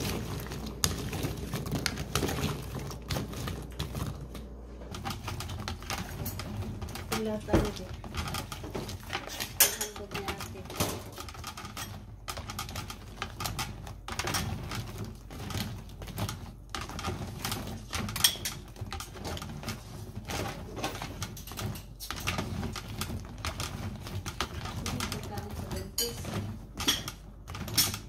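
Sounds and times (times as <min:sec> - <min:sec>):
nuts and tongs knocking in bowl: 0:04.9 - 0:19.7, 0:20.3 - 0:28.0.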